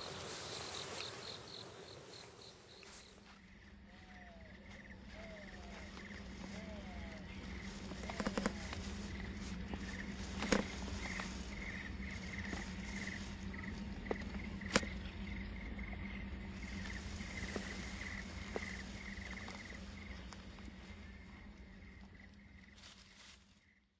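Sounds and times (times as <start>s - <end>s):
insects chirping in pulsed trills: 0.0s - 23.9s
low steady hum: 0.0s - 23.9s.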